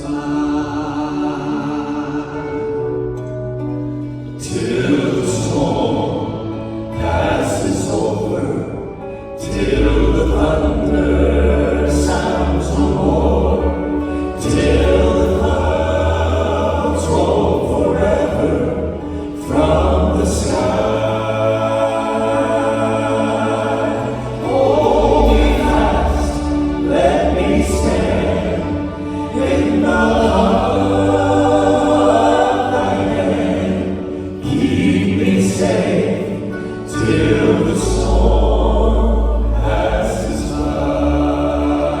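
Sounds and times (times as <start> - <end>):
musical accompaniment with bass: 0.0 - 42.0
vocal group singing in harmony: 0.0 - 42.0.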